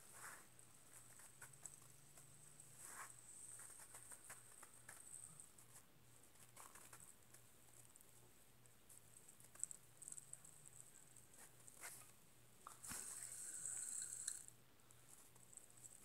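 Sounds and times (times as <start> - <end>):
fidget spinner ticks and rustles: 0.0 - 16.0.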